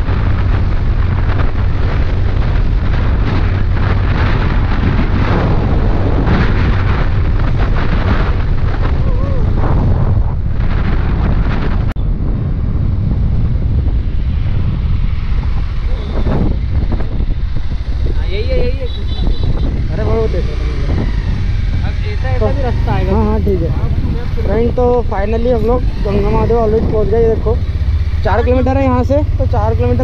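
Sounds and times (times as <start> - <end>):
motorcycle engine and tyre noise: 0.0 - 30.0
wind buffeting microphone: 0.0 - 30.0.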